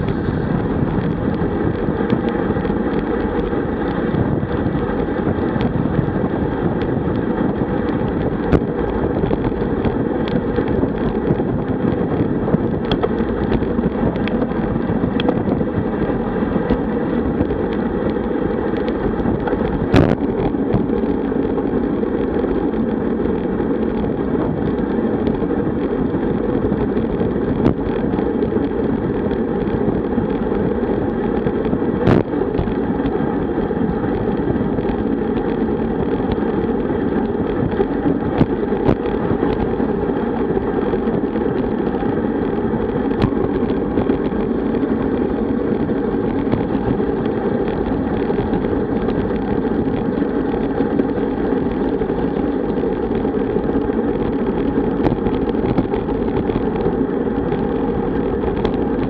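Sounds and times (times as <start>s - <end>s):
bike tyres humming on asphalt: 0.0s - 59.0s
wind rushing over microphone: 0.0s - 59.0s.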